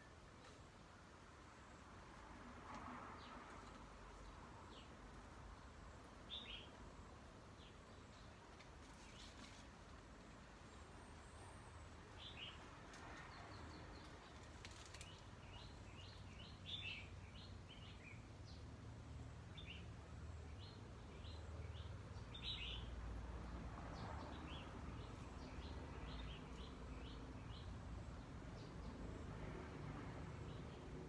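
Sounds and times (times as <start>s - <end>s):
small birds chirping: 3.2s - 18.8s, 19.4s - 29.2s.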